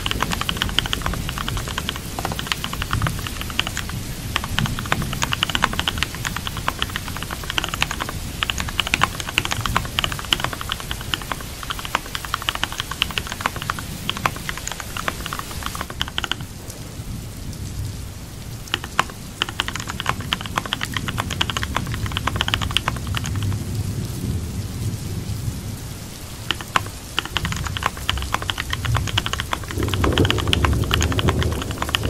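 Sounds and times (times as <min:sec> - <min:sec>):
keyboard typing: 0:00.0 - 0:16.5, 0:18.7 - 0:23.7, 0:26.4 - 0:32.0
steady rain: 0:00.0 - 0:32.0.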